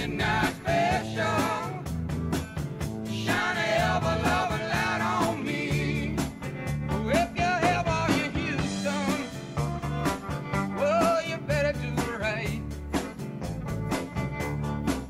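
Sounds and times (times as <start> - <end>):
upbeat band music: 0.0 - 15.0.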